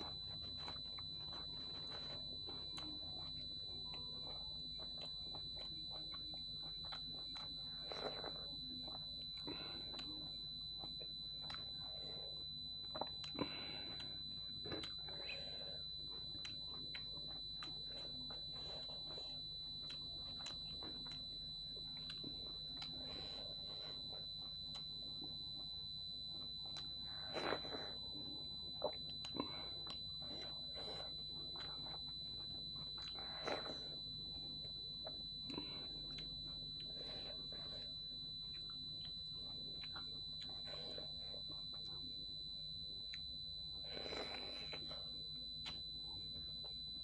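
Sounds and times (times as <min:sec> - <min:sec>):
person chewing with wet mouth clicks: 0:00.0 - 0:12.0, 0:12.8 - 0:47.0
high-pitched electronic whine: 0:00.0 - 0:47.0.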